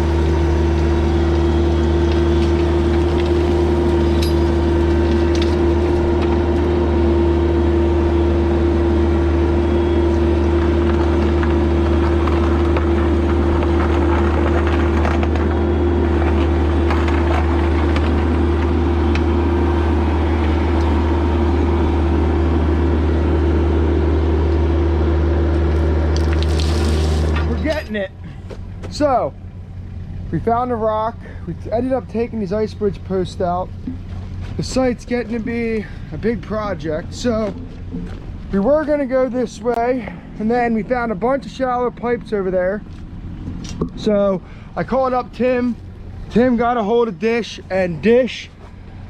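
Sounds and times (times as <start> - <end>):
diesel engine running: 0.0 - 49.0.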